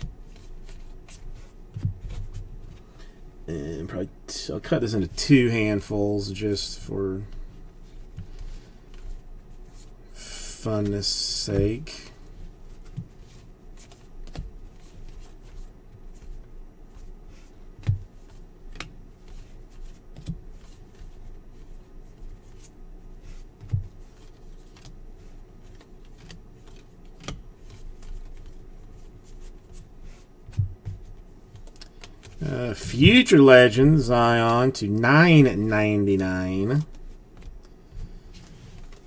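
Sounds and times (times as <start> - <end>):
cards flicking and rustling: 0.0 - 3.2, 7.2 - 9.9, 10.5 - 34.5, 36.6 - 39.0.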